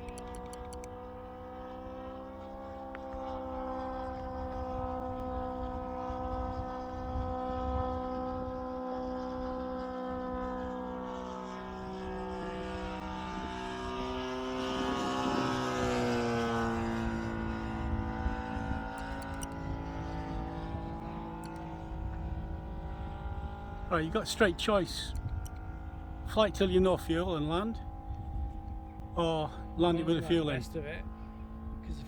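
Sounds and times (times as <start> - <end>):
model plane engine running: 0.0 - 32.0.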